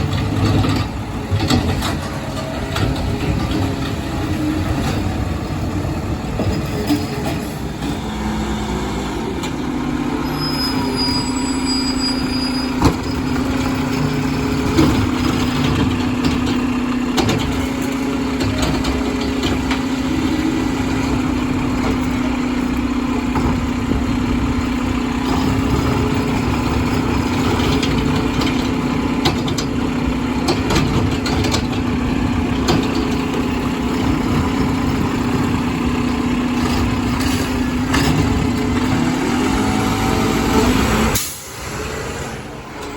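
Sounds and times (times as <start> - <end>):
garbage truck diesel engine: 0.0 - 42.9.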